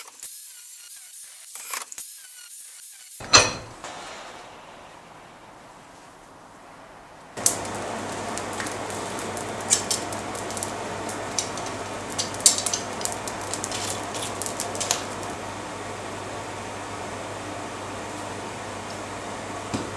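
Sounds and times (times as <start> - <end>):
burning coal crackling: 3.2 - 19.9
forge blower air rushing: 3.2 - 19.9.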